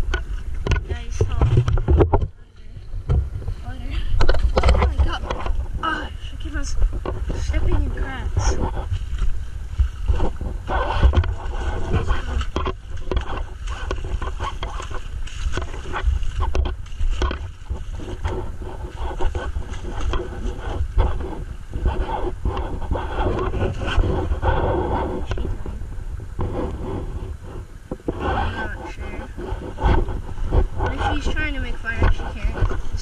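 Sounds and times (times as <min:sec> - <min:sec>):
water sloshing from wading: 0:00.0 - 0:33.0
wind buffeting microphone: 0:00.0 - 0:33.0.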